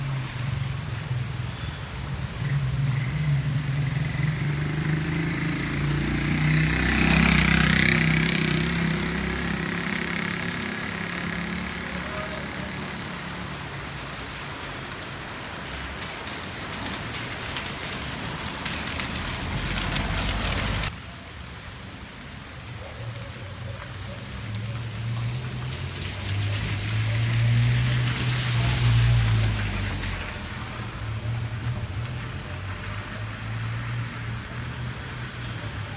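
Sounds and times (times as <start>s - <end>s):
heavy rain: 0.0s - 35.9s
vehicle passing on wet street: 0.0s - 35.9s.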